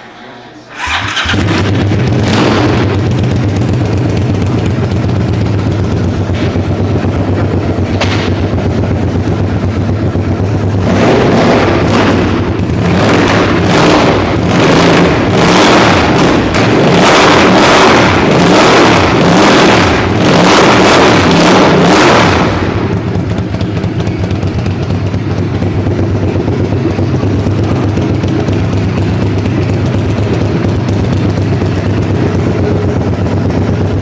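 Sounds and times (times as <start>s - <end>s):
motorcycle engine revving: 0.8s - 34.0s.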